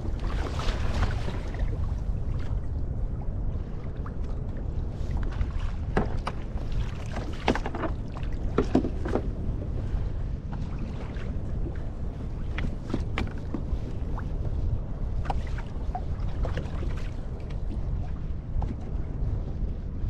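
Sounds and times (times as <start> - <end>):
water slapping against hull: 0.0 - 20.0
wind buffeting microphone: 0.0 - 20.0.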